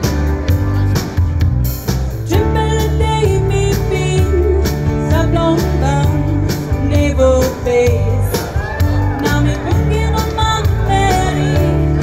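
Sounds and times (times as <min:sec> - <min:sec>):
drum kit: 0:00.0 - 0:12.0
electric bass guitar: 0:00.0 - 0:12.0
keyboards: 0:00.0 - 0:12.0
person singing lead vocals: 0:02.3 - 0:12.0.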